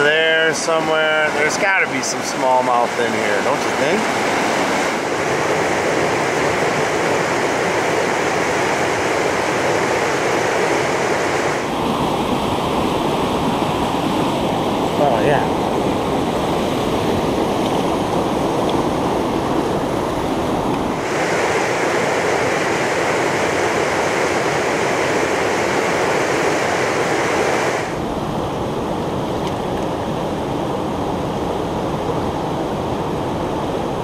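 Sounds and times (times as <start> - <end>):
river rapids rushing over rocks: 0.0 - 29.3.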